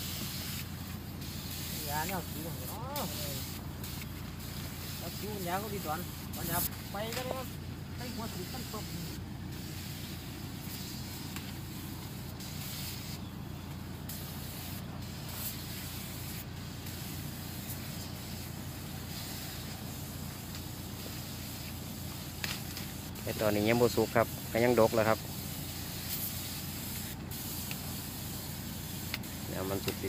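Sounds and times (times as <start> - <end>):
spray gun hissing: 0.0 - 30.0.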